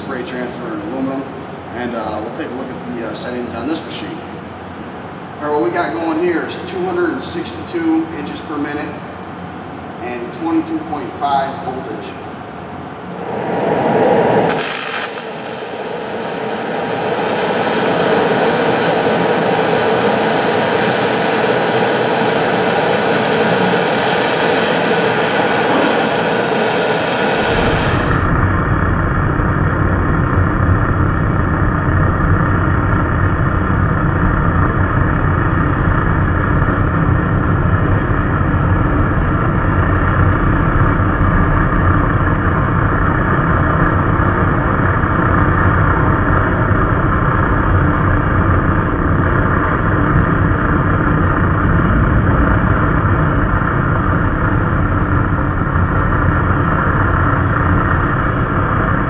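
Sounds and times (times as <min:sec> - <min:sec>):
slowed welding arc drone: 0:00.0 - 0:59.0.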